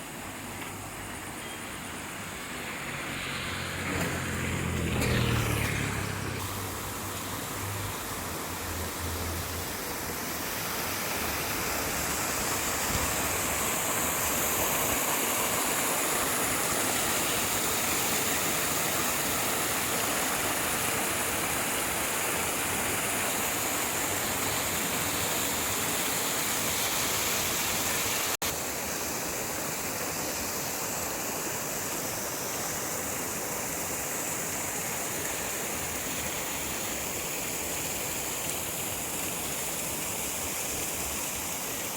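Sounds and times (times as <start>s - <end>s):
water rushing over a dam: 6.4s - 41.9s.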